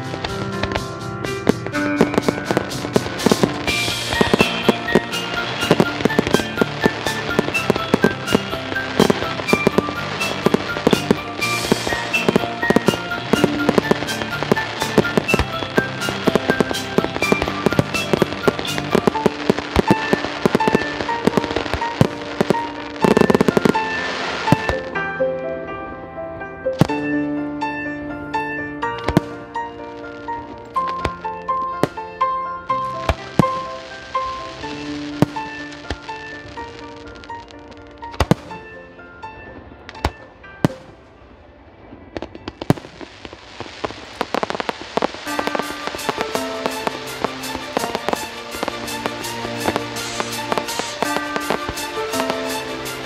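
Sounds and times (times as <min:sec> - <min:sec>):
fireworks bangs and crackles: 0:00.0 - 0:25.1, 0:26.8 - 0:27.1, 0:28.4 - 0:53.0
music: 0:00.0 - 0:53.0.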